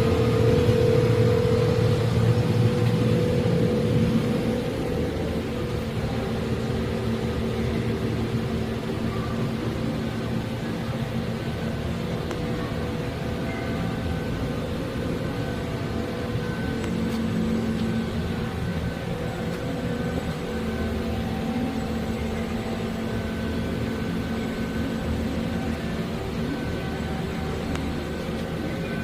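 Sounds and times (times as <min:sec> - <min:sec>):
lathe machine hum: 0:00.0 - 0:29.0
steady machine tones: 0:00.0 - 0:29.0.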